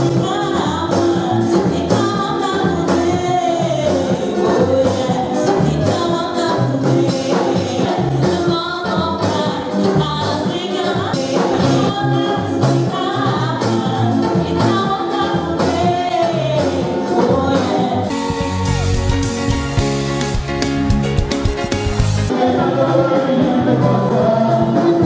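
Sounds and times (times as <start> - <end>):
upbeat song with vocals: 0.0 - 25.0.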